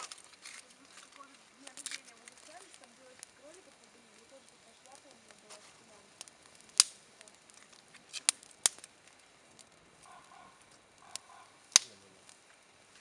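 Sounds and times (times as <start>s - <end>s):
campfire burning: 0.0s - 13.0s
wood popping: 0.0s - 13.0s.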